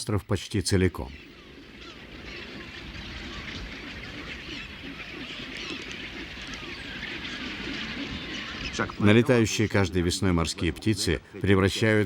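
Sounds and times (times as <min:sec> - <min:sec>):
seabirds honking and squawking: 0:00.8 - 0:12.0.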